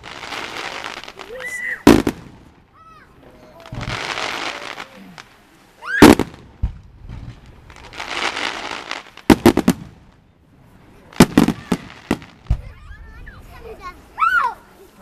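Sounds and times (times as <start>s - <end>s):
fireworks bursting: 0.0s - 14.2s.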